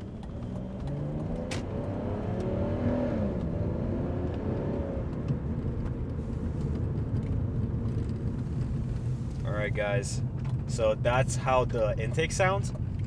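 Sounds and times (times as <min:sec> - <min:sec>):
car engine revving and rumbling: 0:00.0 - 0:13.0
road noise: 0:00.0 - 0:13.0.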